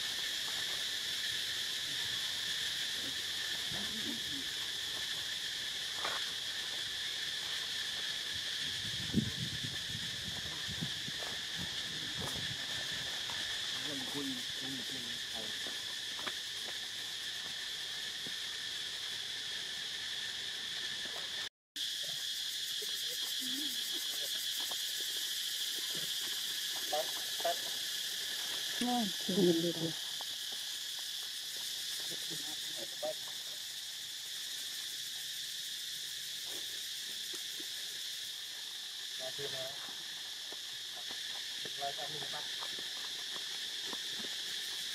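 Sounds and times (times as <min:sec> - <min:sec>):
high drone of insects: 0:00.0 - 0:44.9.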